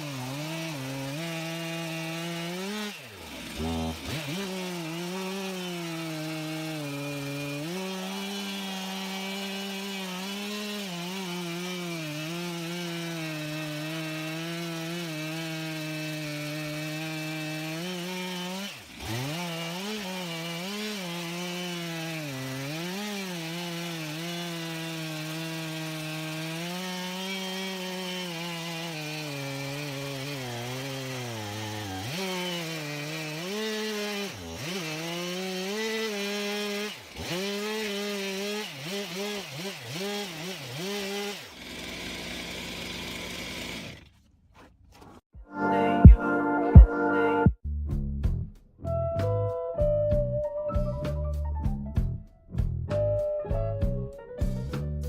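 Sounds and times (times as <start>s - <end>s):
chainsaw engine running: 0.0s - 44.2s.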